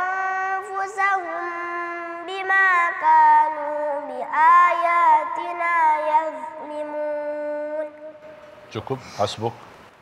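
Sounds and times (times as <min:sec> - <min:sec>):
boy chanting melodic recitation: 0:00.0 - 0:08.4.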